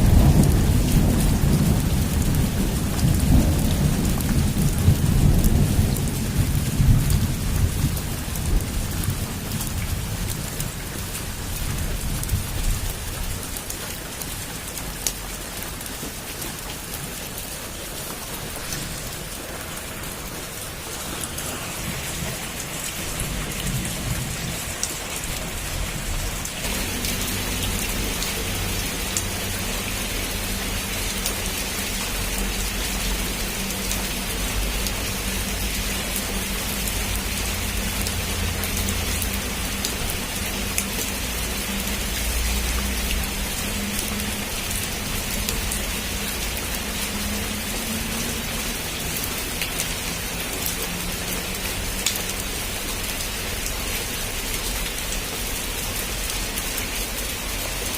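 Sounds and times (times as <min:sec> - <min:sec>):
heavy rain falling: 0:00.0 - 0:57.9
raindrops ticking on a surface: 0:00.0 - 0:57.9.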